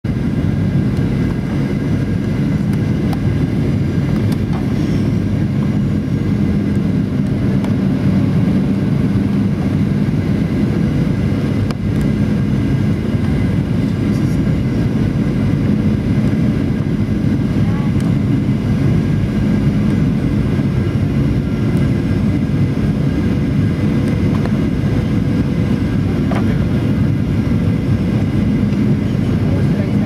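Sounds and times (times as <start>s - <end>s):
jet engine cabin rumble: 0.0s - 30.0s.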